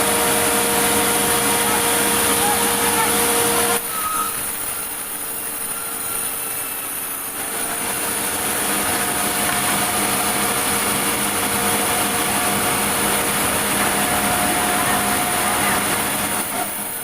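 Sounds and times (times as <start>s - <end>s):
sawmill machinery humming: 0.0s - 17.0s.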